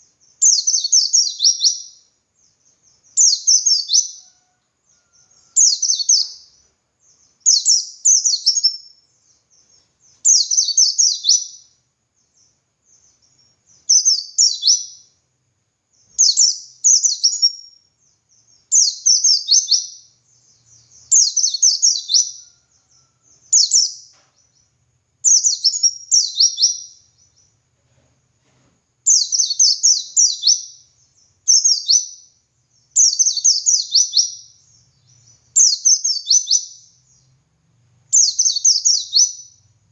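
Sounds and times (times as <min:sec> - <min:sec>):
white-eye bird singing: 0:00.0 - 0:15.2, 0:15.9 - 0:27.7, 0:29.0 - 0:39.9.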